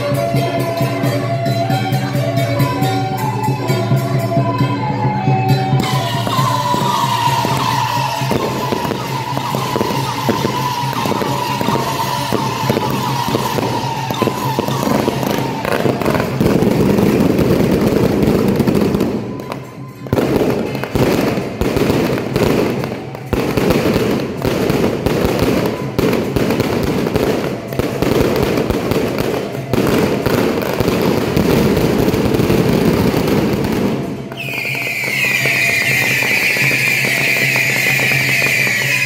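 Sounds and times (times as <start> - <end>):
firecrackers crackling and popping: 4.8 - 39.0
hissing whistle of spark fountains: 4.8 - 39.0.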